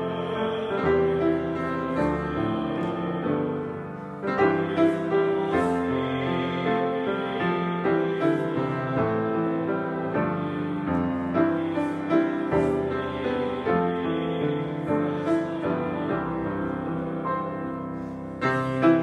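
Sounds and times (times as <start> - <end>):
slow gentle piano piece: 0.0 - 19.0.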